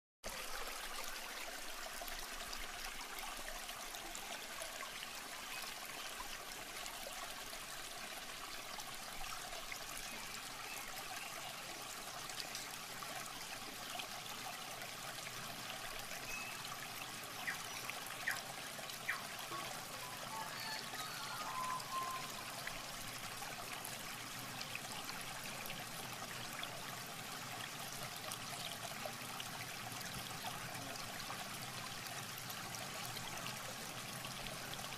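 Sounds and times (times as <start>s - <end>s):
water trickling and pouring: 0.2s - 34.9s.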